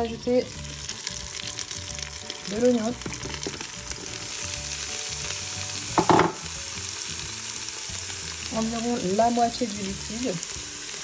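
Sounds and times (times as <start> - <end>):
chicken and onions sizzling: 0.0 - 11.0.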